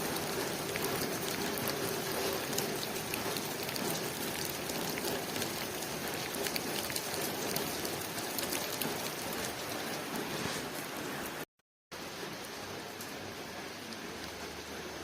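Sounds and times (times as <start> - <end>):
rain pattering on window: 0.0 - 11.4, 12.0 - 15.0.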